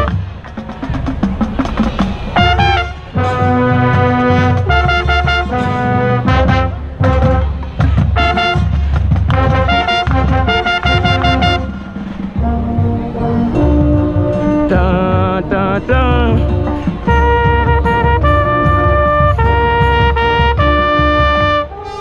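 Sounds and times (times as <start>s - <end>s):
trumpet playing: 0.0s - 0.3s, 2.3s - 22.0s
marching band playing: 0.0s - 22.0s.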